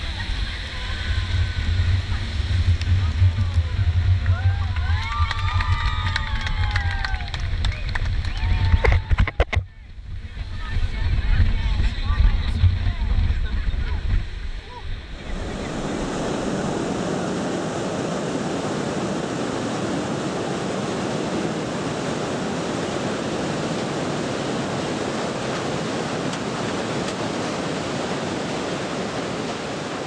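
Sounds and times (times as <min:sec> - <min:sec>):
waterfall roaring: 0:00.0 - 0:09.6, 0:14.6 - 0:30.0.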